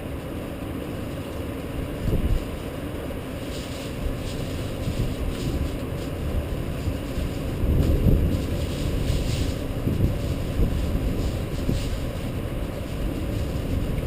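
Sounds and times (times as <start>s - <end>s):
rainstorm rumble: 0.0s - 14.0s.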